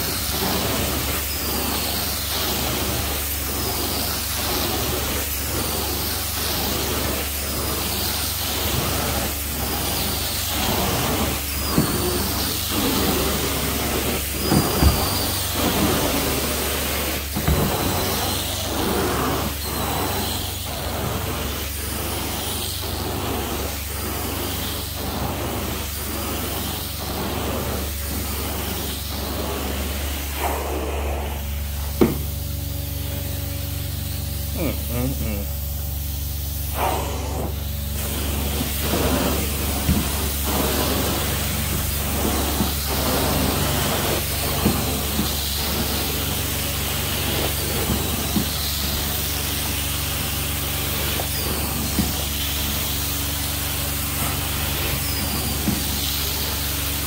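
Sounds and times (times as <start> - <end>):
extraction wand rushing hiss: 0.0 - 57.0
low machine hum: 0.0 - 57.0.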